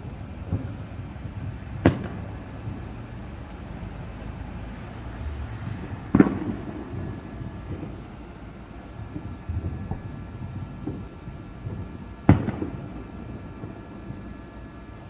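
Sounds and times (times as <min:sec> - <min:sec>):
distant firework booms: 0:00.0 - 0:14.5
low background noise: 0:00.0 - 0:15.0.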